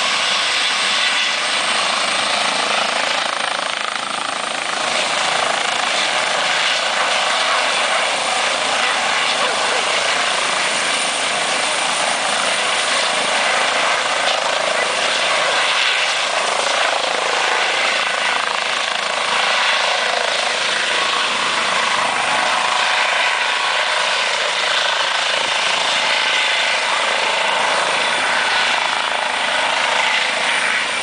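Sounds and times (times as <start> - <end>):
helicopter hovering: 0.0 - 31.0
rotor and turbine drone: 0.0 - 31.0.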